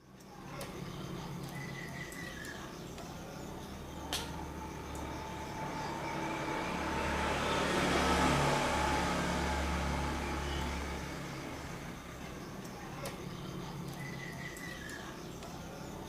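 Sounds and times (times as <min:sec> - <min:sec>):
road vehicle passing by: 0:00.5 - 0:16.0.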